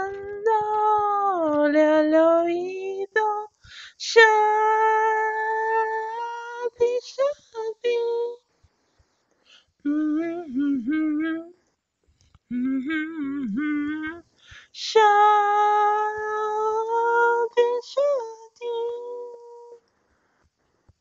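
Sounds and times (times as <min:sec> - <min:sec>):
person singing unaccompanied: 0:00.0 - 0:08.5, 0:09.8 - 0:11.6, 0:12.5 - 0:19.8.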